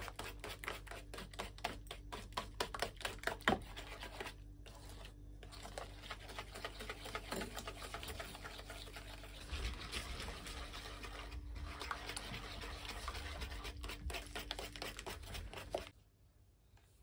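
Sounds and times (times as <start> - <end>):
whisk beating batter in a bowl: 0.0 - 16.0.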